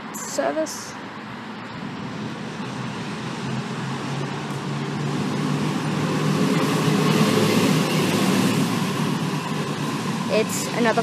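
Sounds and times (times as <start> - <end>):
road traffic: 0.0 - 11.0
tram passing: 0.0 - 11.0
low hum: 1.6 - 11.0.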